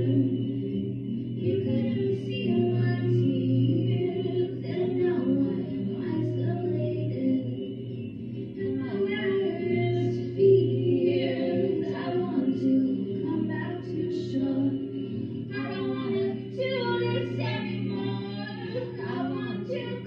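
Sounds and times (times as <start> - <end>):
layered singing voices: 0.0 - 20.0.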